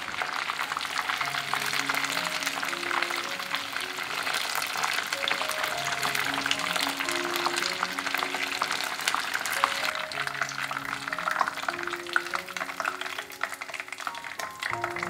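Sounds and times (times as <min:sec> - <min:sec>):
wings deep-frying in oil: 0:00.0 - 0:15.0.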